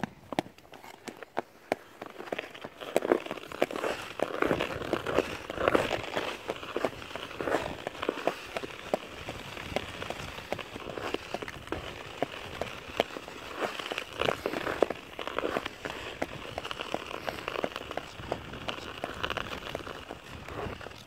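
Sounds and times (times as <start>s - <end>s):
footsteps crunching on snowy ice: 0.3s - 21.0s.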